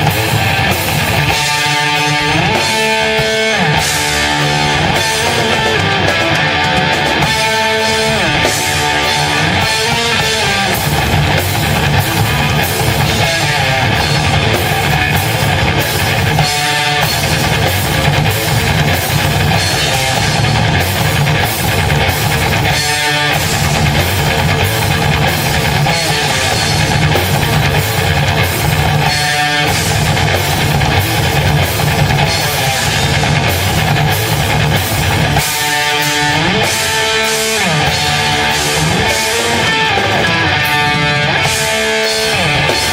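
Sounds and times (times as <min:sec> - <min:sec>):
drum kit with cymbals: 0:00.0 - 0:42.9
electric guitars: 0:00.0 - 0:42.9
rock band playing live: 0:00.0 - 0:42.9.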